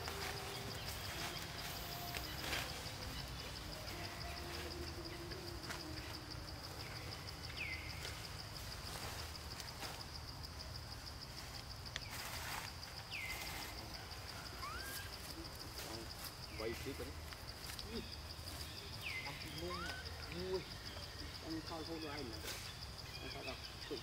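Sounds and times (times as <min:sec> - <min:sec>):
high insect trill: 0:00.0 - 0:24.0.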